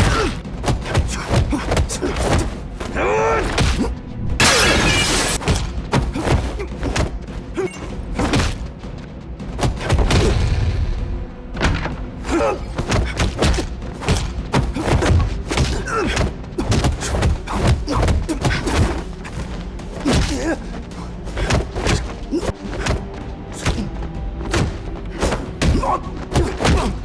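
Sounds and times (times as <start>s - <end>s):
dramatic orchestral score: 0.0s - 27.0s.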